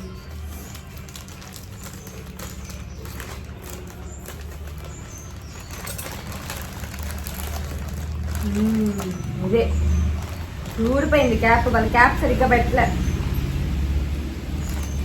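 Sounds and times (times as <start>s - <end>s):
packaging rustling: 0.0s - 12.0s, 14.1s - 15.0s.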